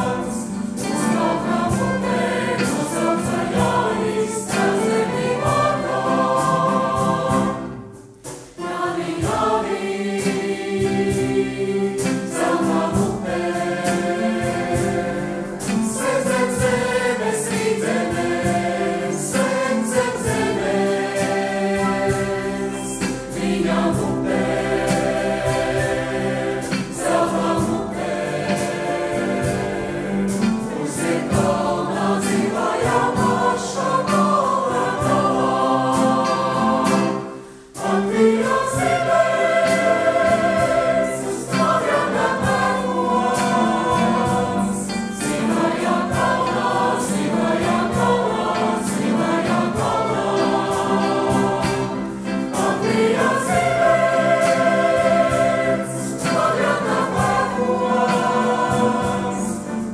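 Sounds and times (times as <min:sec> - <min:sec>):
women singing in harmony: 0:00.0 - 0:59.9.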